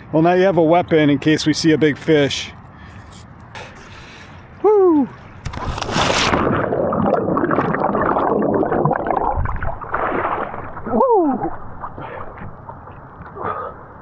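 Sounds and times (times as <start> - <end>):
water sloshing and gurgling: 2.7 - 14.0.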